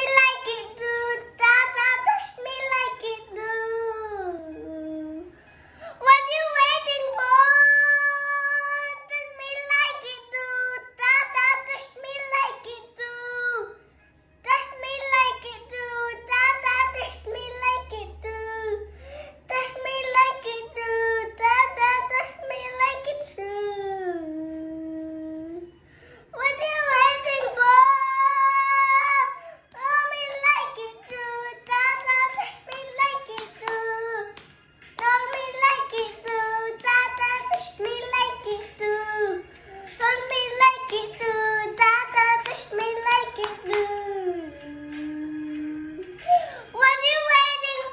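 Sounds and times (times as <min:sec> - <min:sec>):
boy singing: 0:00.0 - 0:05.3, 0:06.0 - 0:13.8, 0:14.4 - 0:18.9, 0:19.5 - 0:25.7, 0:26.3 - 0:34.4, 0:35.0 - 0:47.9.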